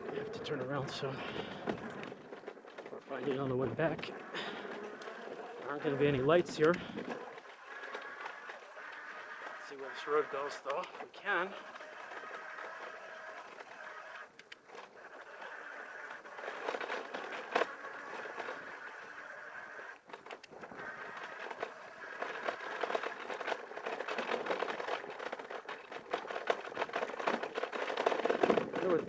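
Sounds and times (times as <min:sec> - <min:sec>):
bike tyres rolling on rough track: 0:00.0 - 0:29.0.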